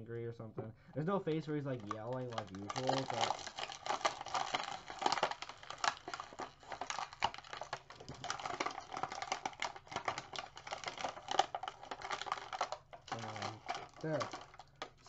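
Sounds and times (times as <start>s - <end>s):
plastic clicks taps and rustles: 1.7s - 15.0s.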